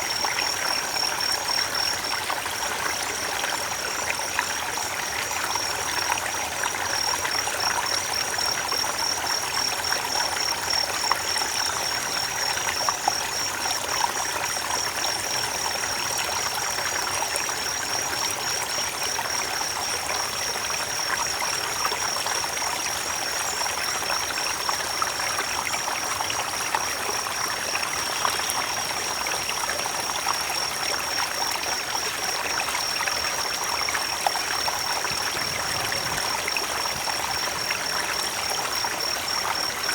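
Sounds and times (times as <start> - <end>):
creek water over stones: 0.0 - 39.9.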